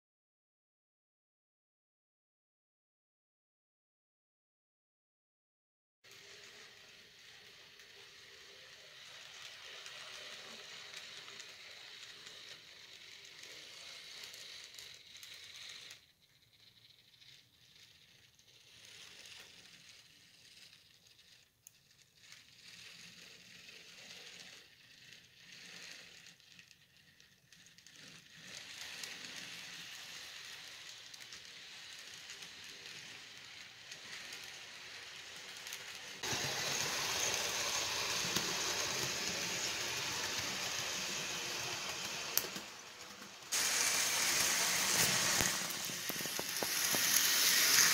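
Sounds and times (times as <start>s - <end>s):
model train wheels rattling on track: 6.1s - 47.9s.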